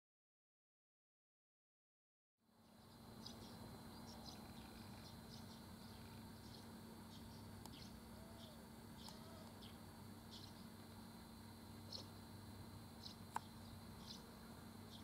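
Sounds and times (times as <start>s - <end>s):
high insect drone: 2.4s - 15.0s
low steady hum: 2.4s - 15.0s.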